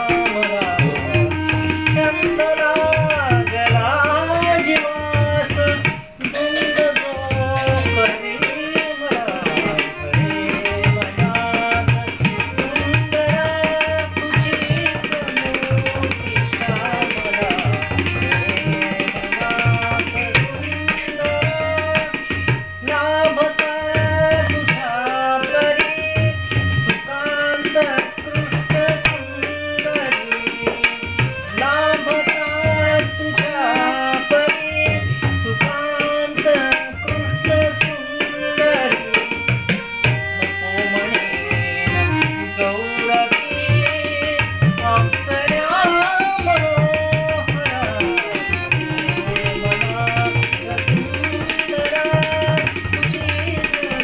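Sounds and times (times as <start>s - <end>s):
harmonium sustained notes: 0.0s - 54.0s
person singing ornamented phrases: 0.0s - 54.0s
tabla playing: 0.0s - 54.0s.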